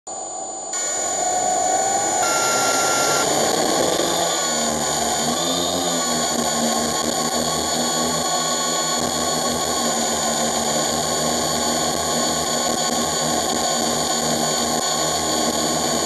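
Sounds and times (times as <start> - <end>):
drone motors whining: 0.1 - 16.0.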